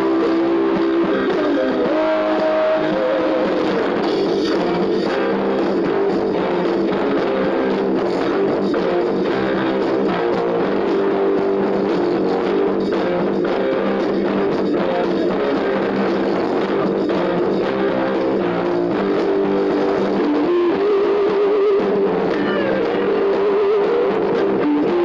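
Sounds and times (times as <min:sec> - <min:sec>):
rock music with guitar and drums: 0:00.0 - 0:25.0.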